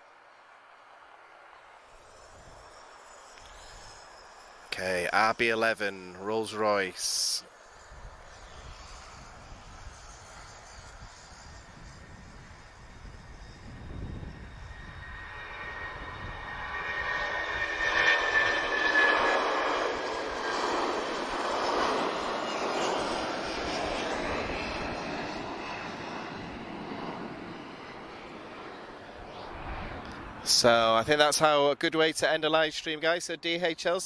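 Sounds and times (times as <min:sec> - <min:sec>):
jet engines roaring: 0:00.1 - 0:34.0.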